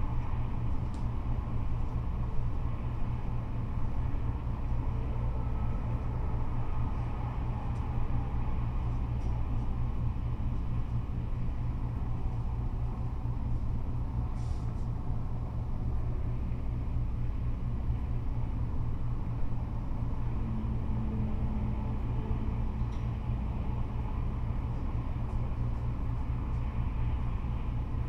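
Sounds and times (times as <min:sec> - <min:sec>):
freeway traffic rumble: 0:00.0 - 0:28.0.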